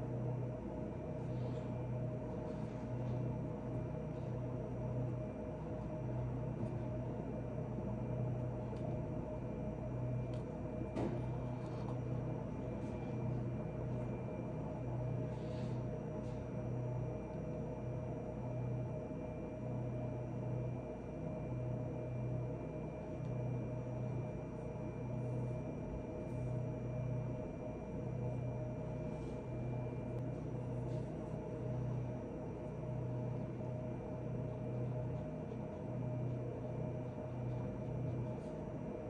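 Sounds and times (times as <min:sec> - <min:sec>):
low humming fan: 0:00.0 - 0:39.0.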